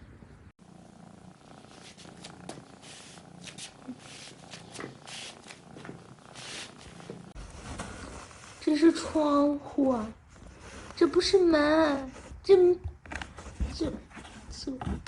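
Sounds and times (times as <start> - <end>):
cat purring: 0.6 - 14.8.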